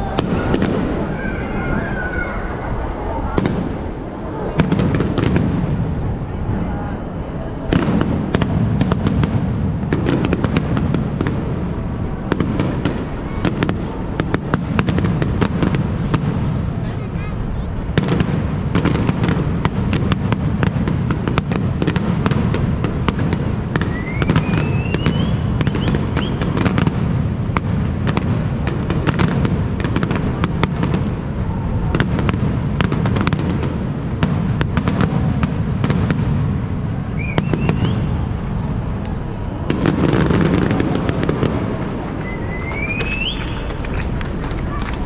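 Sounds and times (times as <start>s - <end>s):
whistles of rising fireworks: 0.0s - 6.7s, 7.6s - 16.7s, 17.9s - 45.0s
fireworks crackles and bangs: 0.0s - 45.0s.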